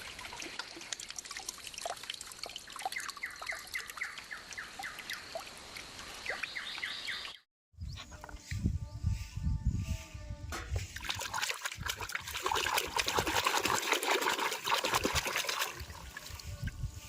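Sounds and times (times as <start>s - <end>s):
water splashing and trickling: 0.0s - 7.4s, 10.7s - 17.0s.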